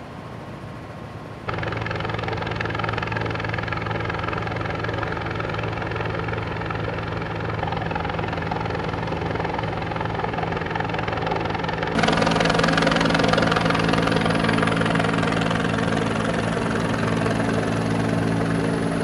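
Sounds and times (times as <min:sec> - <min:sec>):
helicopter rotor and turbine: 0:00.0 - 0:19.0.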